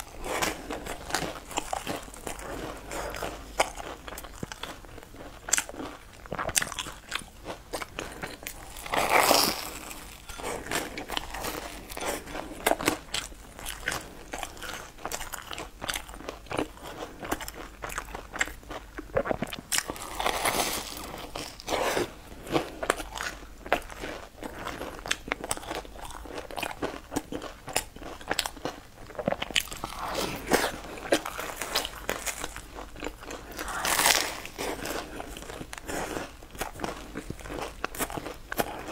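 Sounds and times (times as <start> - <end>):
crusty bread crunching: 0.0 - 38.9.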